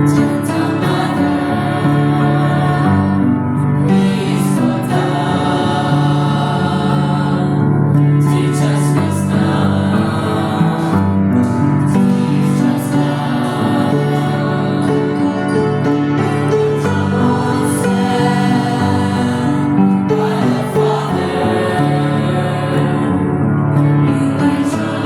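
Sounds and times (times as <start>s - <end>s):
choir singing a hymn: 0.0s - 25.0s
sustained instrumental accompaniment: 0.0s - 25.0s.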